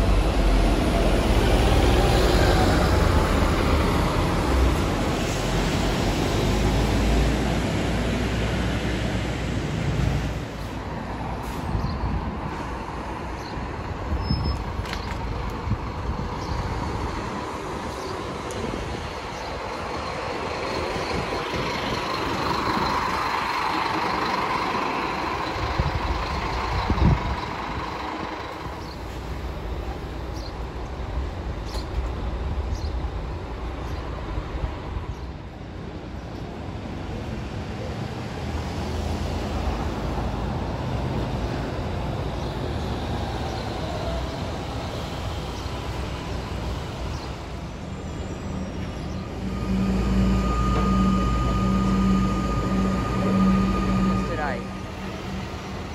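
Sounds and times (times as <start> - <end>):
large vehicles passing: 0.0 - 55.9.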